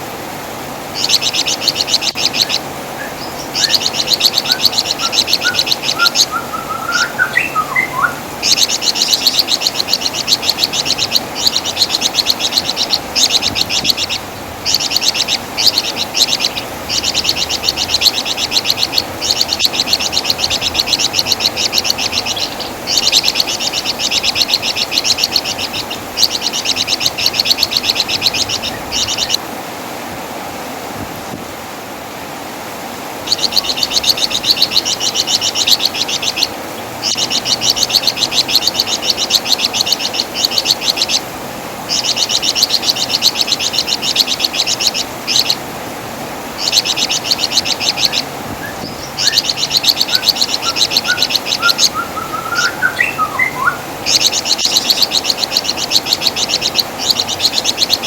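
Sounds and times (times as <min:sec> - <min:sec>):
songbird trilling: 0:00.9 - 0:29.4, 0:33.2 - 0:41.3, 0:41.9 - 0:45.6, 0:46.6 - 0:58.0.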